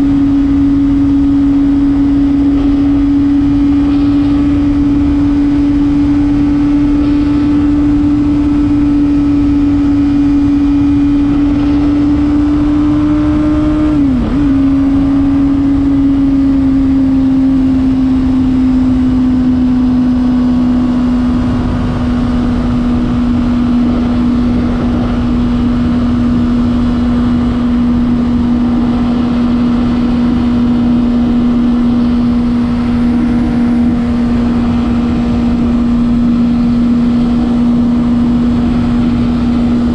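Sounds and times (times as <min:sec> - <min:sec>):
motorcycle engine at high revs: 0:00.0 - 0:39.9
wind rush: 0:00.0 - 0:39.9.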